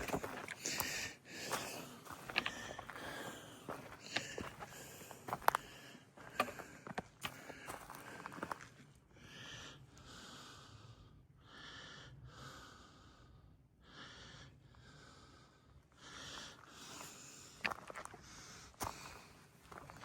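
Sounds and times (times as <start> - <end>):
person breathing hard: 0.0 - 20.0.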